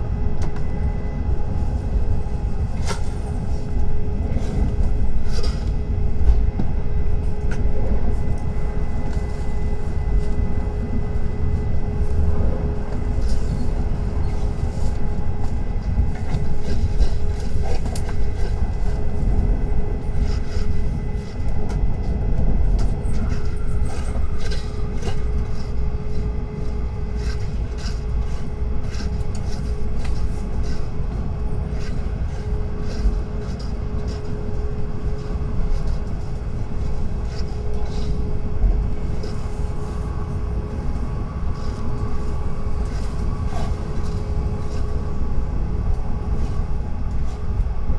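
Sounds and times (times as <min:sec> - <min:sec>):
train rumble and hum: 0:00.0 - 0:47.9.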